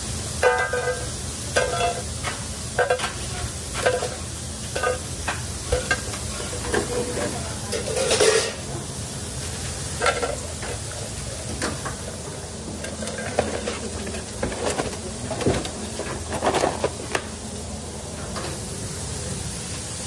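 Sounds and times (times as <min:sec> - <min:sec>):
kitchen background hum: 0:00.0 - 0:20.0.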